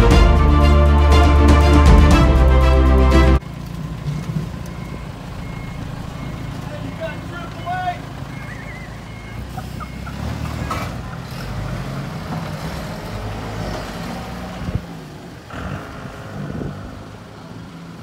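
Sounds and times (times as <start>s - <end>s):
vehicle engines droning: 0.0s - 18.0s.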